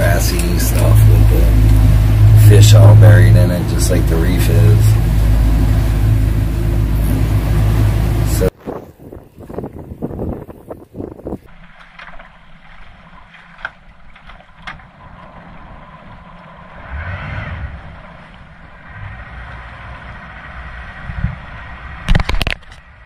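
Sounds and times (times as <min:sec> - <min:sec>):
outboard motor running slowly: 0:00.0 - 0:10.5, 0:11.4 - 0:17.0, 0:17.7 - 0:22.6
water washing along hull: 0:00.0 - 0:23.0.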